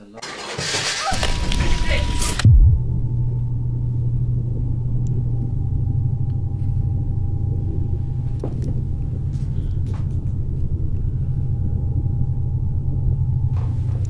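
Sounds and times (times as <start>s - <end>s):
low rumbling drone: 1.3s - 14.0s.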